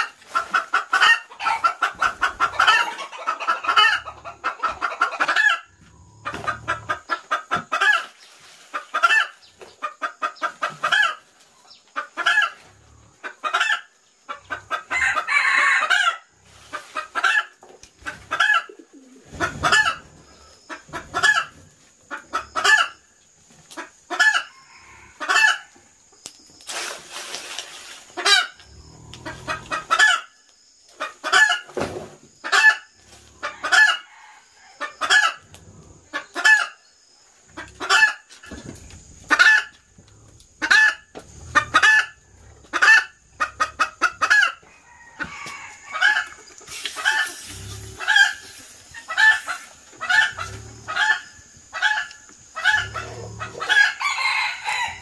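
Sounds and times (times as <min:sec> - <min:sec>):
chicken clucking: 0:00.0 - 0:26.3, 0:27.8 - 0:55.0.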